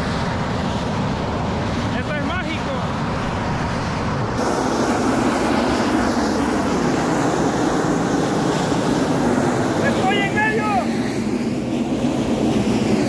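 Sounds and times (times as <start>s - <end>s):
steam venting roar: 0.0s - 13.0s.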